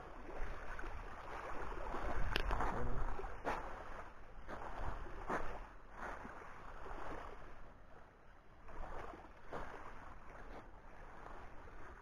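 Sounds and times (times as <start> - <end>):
small waves on a pebble beach: 0.0 - 12.0.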